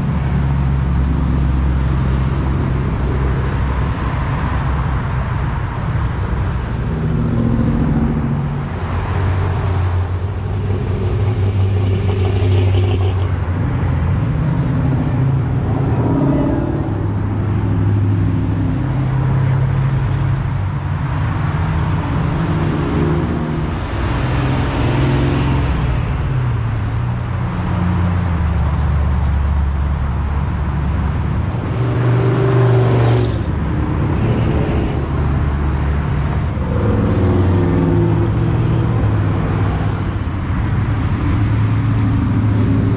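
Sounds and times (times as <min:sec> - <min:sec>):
car engines running: 0:00.0 - 0:42.9
road and traffic noise: 0:00.0 - 0:42.9.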